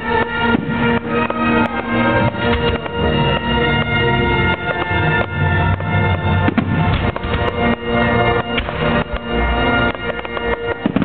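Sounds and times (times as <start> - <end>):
firework shells bursting: 0.0 - 11.0
music with long held notes: 0.0 - 11.0.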